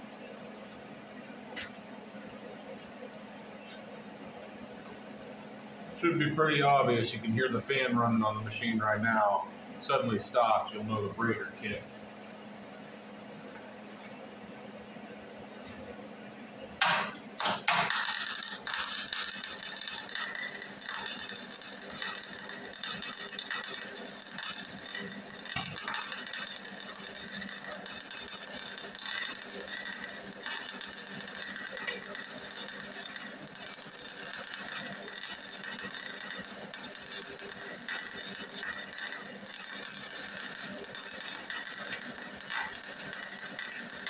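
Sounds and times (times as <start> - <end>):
welder arc crackling and popping: 0.7 - 3.0, 6.0 - 12.0, 16.8 - 44.0.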